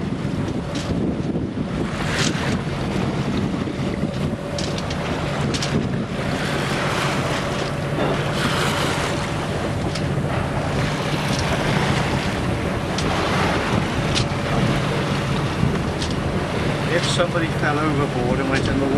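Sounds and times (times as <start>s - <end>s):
water rushing along boat hull: 0.0s - 18.9s
wind buffeting microphone: 0.0s - 18.9s.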